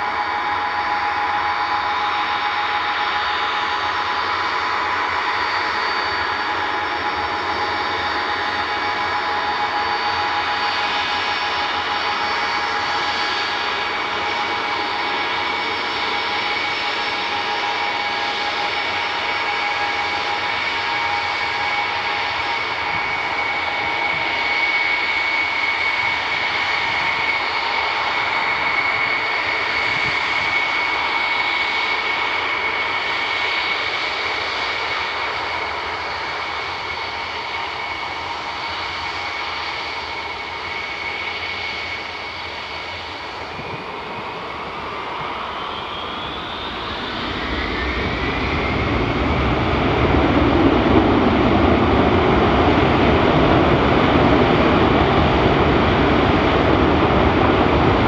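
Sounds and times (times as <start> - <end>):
jet engines whining and roaring: 0.0 - 58.0.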